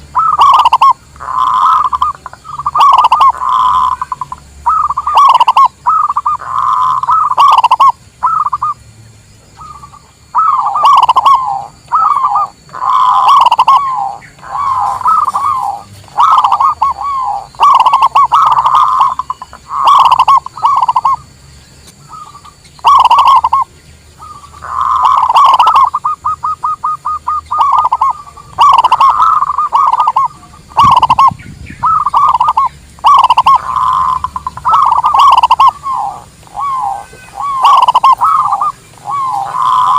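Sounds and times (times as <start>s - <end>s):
doves cooing: 0.0s - 8.8s, 9.5s - 39.9s.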